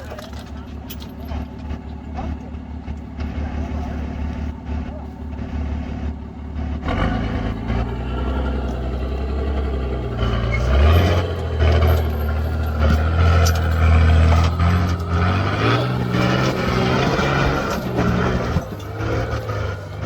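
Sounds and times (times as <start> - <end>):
engine revving under load: 2.2 - 20.0.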